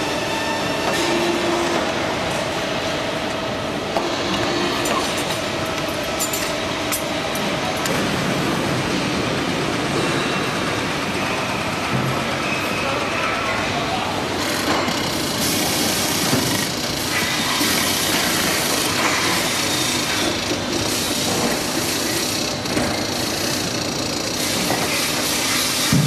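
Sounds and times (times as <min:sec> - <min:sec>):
factory machinery running: 0:00.0 - 0:26.0.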